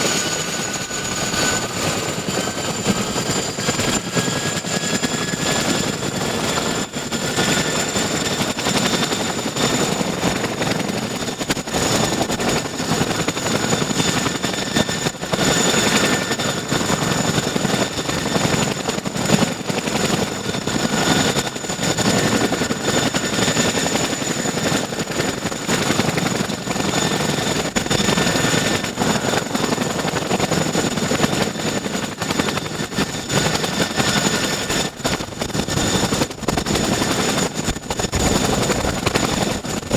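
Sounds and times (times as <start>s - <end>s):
helicopter rotors pulsing: 0.0s - 39.9s
helicopter turbine whine: 0.0s - 39.9s.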